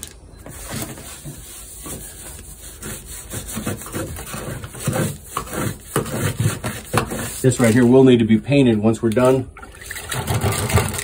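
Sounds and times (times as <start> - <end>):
sponge float rubbing stucco: 0.4 - 11.0.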